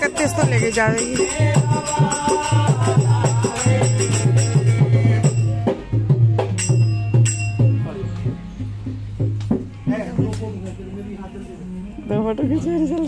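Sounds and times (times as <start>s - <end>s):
rattling percussion: 0.0s - 10.9s.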